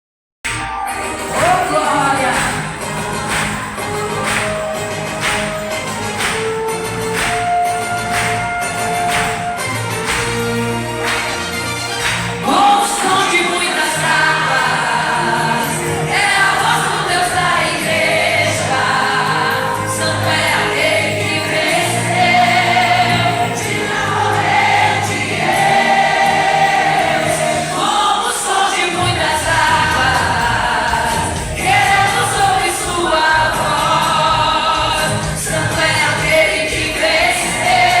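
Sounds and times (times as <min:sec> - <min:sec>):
choir singing gospel: 0:01.0 - 0:38.0.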